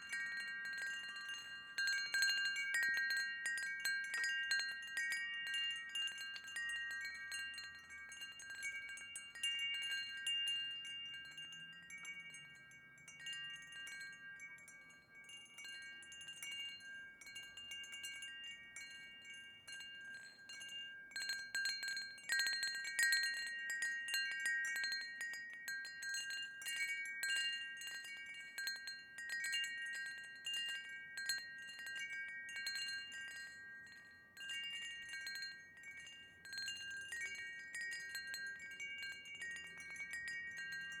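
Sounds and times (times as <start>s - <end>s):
wind chimes ringing: 0.0s - 41.0s.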